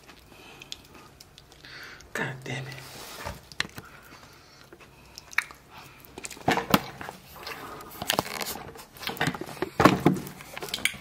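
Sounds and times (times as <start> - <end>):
person chewing food: 0.0 - 2.1, 2.8 - 11.0.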